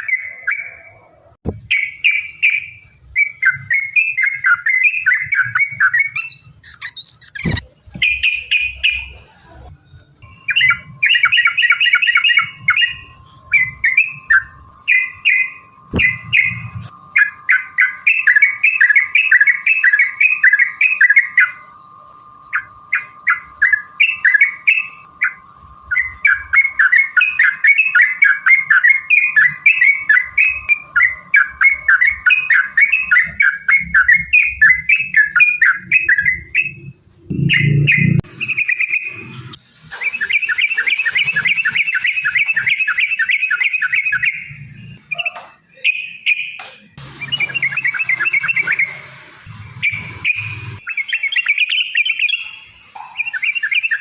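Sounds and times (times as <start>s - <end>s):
bulbuls singing chattering notes: 0.0s - 54.0s.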